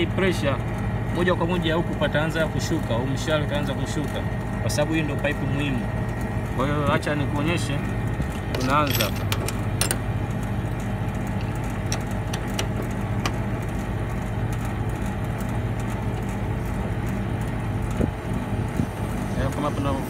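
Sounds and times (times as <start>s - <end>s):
compressor humming: 0.0s - 20.0s.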